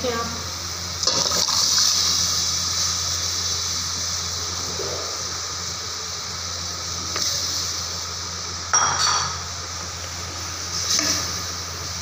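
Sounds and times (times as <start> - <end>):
sauce sizzling in hot oil: 0.0 - 12.0.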